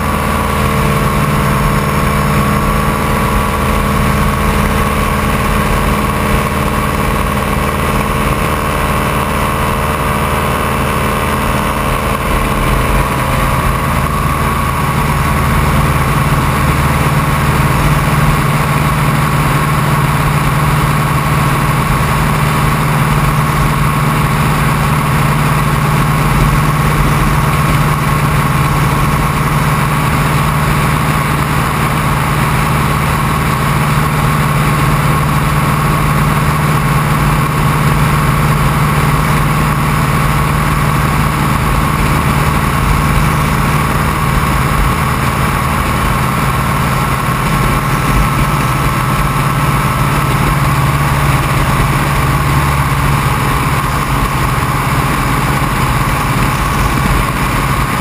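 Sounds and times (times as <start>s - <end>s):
airplane engine and propeller: 0.0s - 58.0s.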